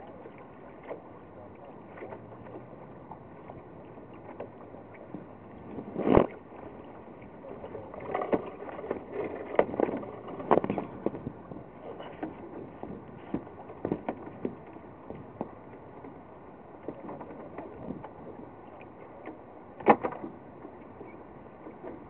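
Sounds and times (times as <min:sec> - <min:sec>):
water and wind hissing along hull: 0:00.0 - 0:22.0.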